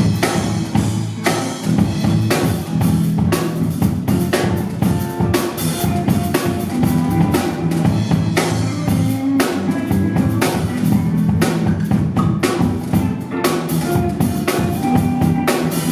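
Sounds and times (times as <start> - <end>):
held low notes: 0.0 - 15.9.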